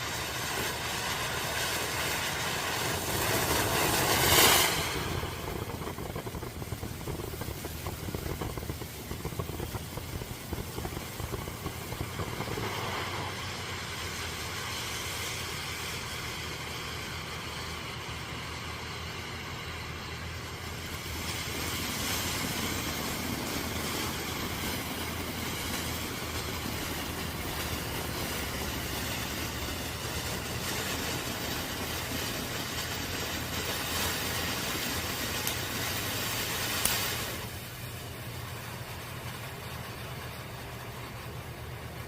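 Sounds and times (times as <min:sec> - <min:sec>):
firework fountain hissing: 0:00.0 - 0:42.0.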